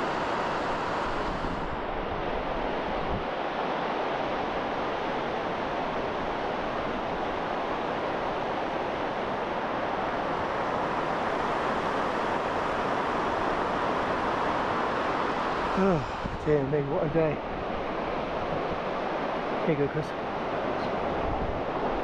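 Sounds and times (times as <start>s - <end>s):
surf breaking on sandy shore: 0.0s - 22.0s.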